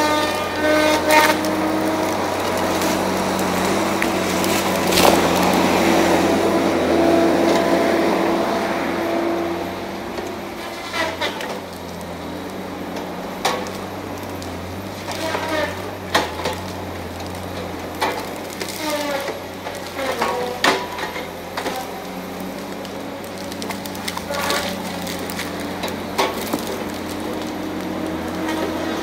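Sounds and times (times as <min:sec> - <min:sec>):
tree trunks cracking and snapping: 0:00.0 - 0:08.9, 0:10.1 - 0:29.0
distant machine engine running: 0:00.0 - 0:29.0.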